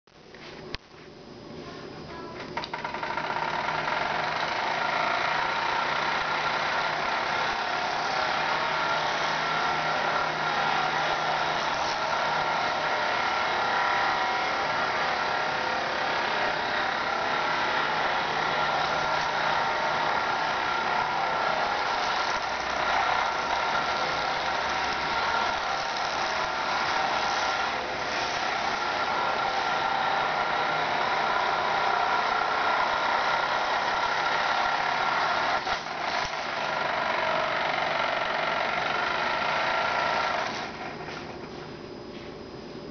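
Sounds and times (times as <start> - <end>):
toy helicopter motor whirring: 2.1 - 41.4.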